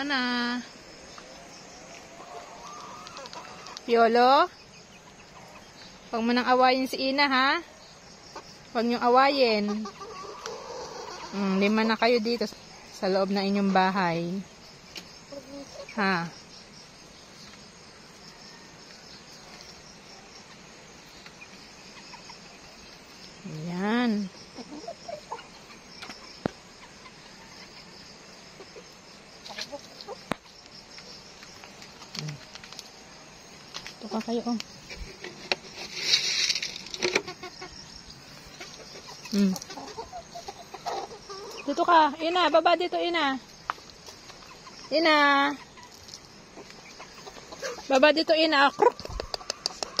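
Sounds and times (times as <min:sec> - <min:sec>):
chickens clucking: 0:00.0 - 0:50.0
insects chirping: 0:00.0 - 0:50.0.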